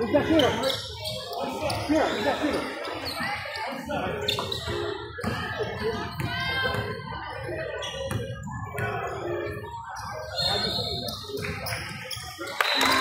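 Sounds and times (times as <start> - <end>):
many voices talking and calling out: 0.0 - 13.0.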